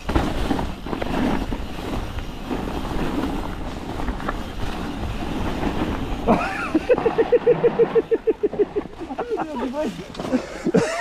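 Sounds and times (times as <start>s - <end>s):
bike rumbling on hard ground: 0.0s - 11.0s.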